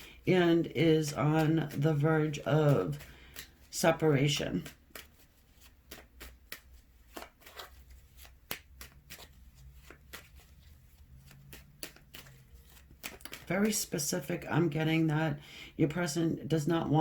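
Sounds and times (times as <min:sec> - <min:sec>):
cards shuffling and clicking: 0:00.0 - 0:15.1.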